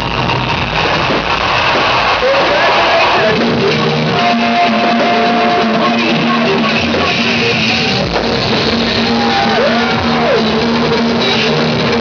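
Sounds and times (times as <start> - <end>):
loud music with bending notes: 0.0 - 12.0.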